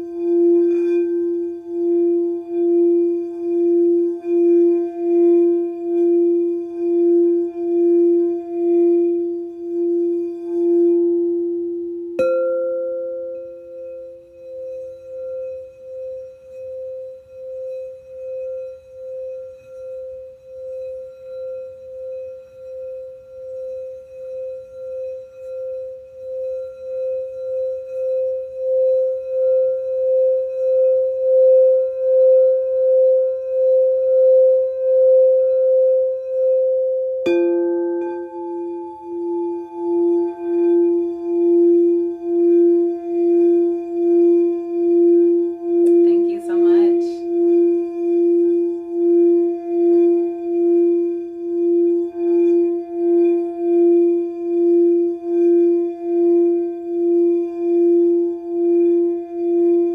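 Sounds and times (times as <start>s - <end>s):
high singing bowl struck and sung: 0.0s - 59.9s
low singing bowl humming: 0.0s - 59.9s.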